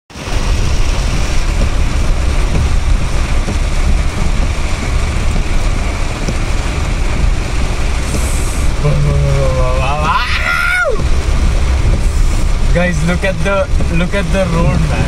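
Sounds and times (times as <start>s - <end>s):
car interior engine and road rumble: 0.1s - 15.0s.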